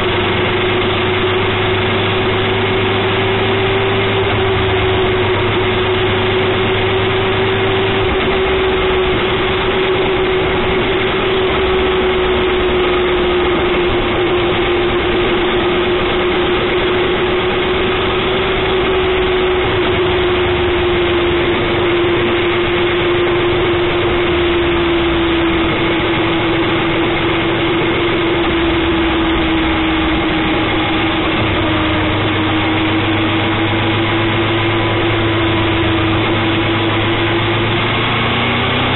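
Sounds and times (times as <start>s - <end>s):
motorcycle engine hum: 0.0s - 38.9s
wind and road noise: 0.0s - 38.9s.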